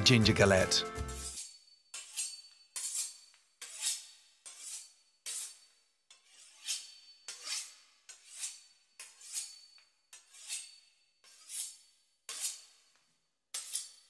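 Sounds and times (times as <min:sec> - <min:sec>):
knife sawing through pastry crust: 0:01.2 - 0:12.9, 0:13.5 - 0:14.0.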